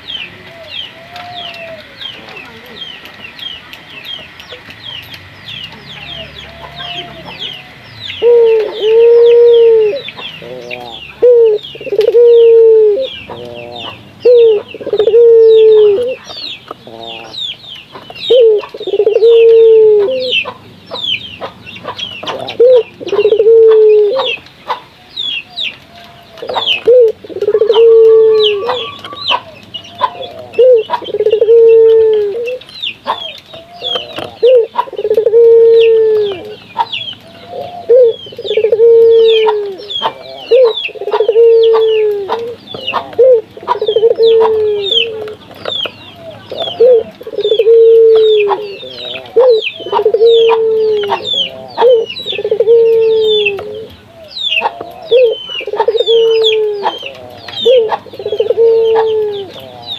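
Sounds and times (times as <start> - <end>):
doves cooing: 0.0 - 59.9
small birds chirping: 0.0 - 59.9.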